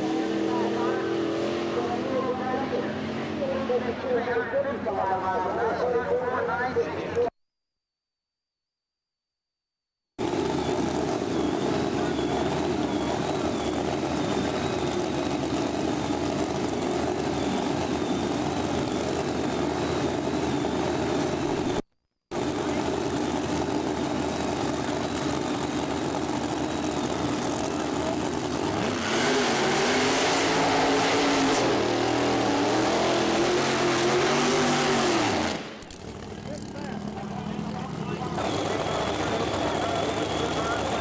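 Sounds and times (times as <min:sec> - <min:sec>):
drag racing car engines: 0:00.0 - 0:07.3, 0:10.2 - 0:41.0.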